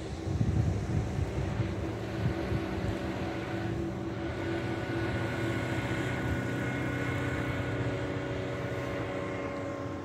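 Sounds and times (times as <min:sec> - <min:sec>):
motorboat engine droning: 0:00.0 - 0:10.0
wind: 0:00.0 - 0:10.0.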